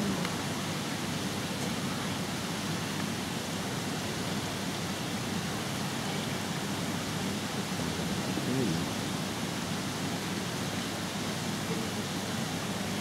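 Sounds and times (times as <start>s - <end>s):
faint low murmur: 0.0s - 13.0s
indoor hall rushing hiss: 0.0s - 13.0s.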